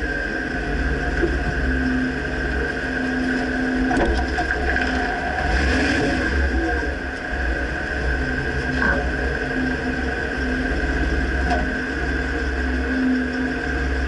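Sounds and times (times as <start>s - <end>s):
faint steady whine: 0.0s - 14.0s
pickup truck engine rumble: 0.0s - 14.0s.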